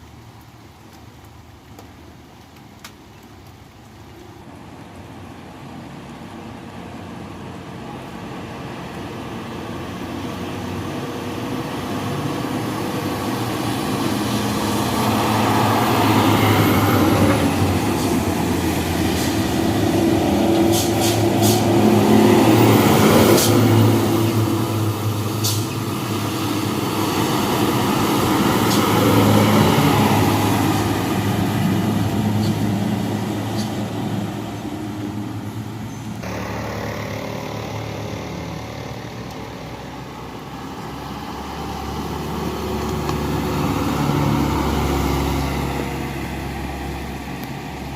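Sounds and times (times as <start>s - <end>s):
diesel trucks passing: 0.0s - 47.9s.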